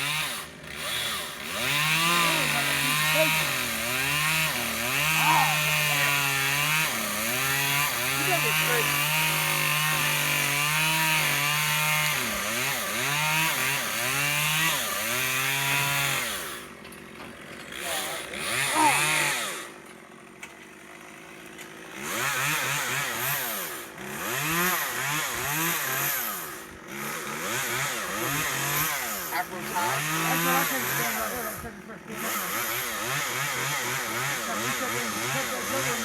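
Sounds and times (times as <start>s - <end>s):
chainsaw revving and cutting: 0.0s - 36.0s.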